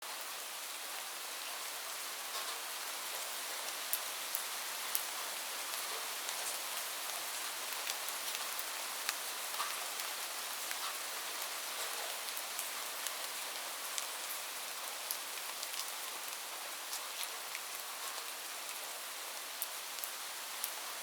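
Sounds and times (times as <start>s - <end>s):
rain falling: 0.1s - 21.0s.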